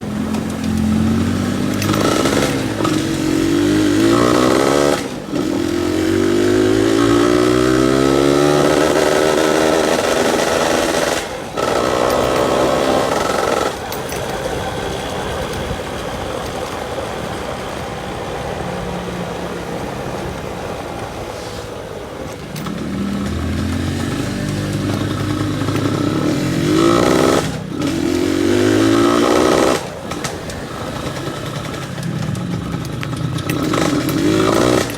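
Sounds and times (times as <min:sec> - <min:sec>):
two-stroke motorcycle engine revving: 0:00.0 - 0:21.3, 0:22.4 - 0:34.9.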